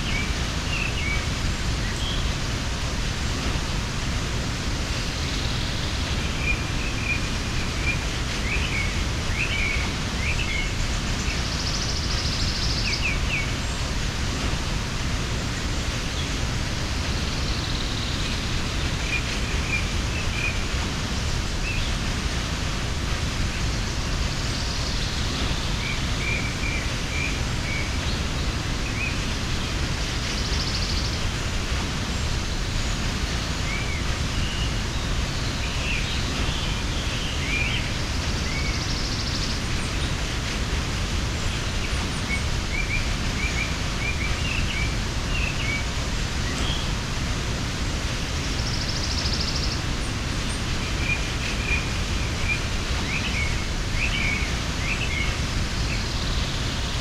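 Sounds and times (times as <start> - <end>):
small birds chirping: 0.0 - 57.0
waterfall rushing: 0.0 - 57.0.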